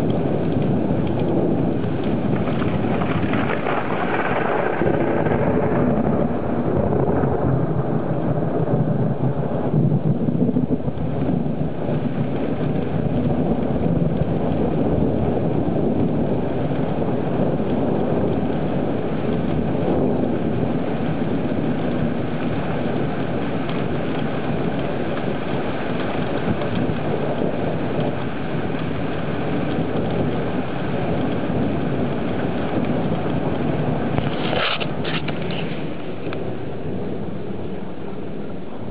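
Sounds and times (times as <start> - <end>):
thunderstorm rushing noise: 0.0 - 38.9.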